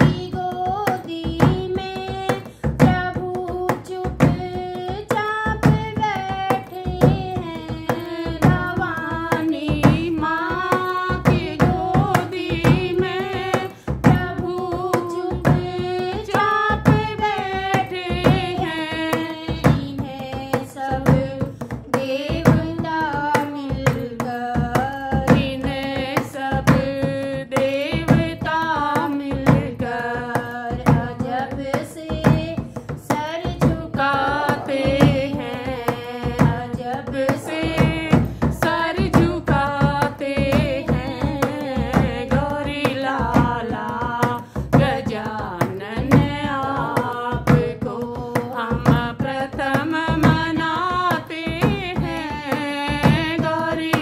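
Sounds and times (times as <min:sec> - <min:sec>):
steady percussive beats: 0:00.0 - 0:54.0
woman singing devotional song: 0:00.0 - 0:54.0.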